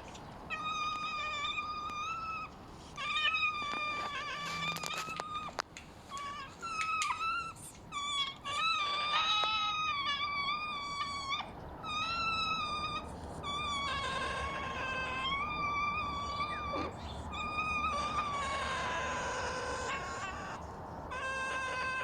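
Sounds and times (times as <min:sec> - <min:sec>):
animal high-pitched calls: 0:00.5 - 0:22.0.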